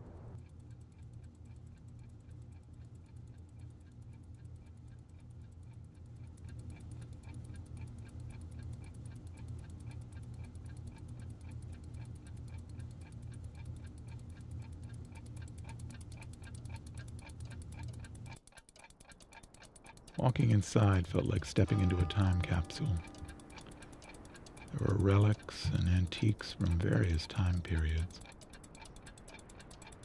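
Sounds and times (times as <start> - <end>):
steady low hum: 0.0 - 18.4, 19.0 - 30.0
clocks ticking: 0.2 - 30.0.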